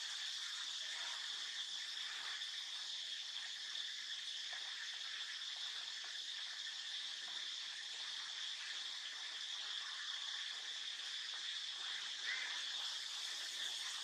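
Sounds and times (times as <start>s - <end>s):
insect chorus buzzing: 0.0s - 14.0s.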